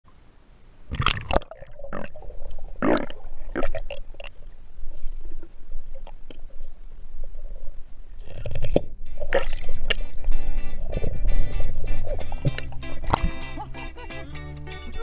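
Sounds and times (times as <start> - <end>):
muffled underwater rumble: 1.0 - 14.3.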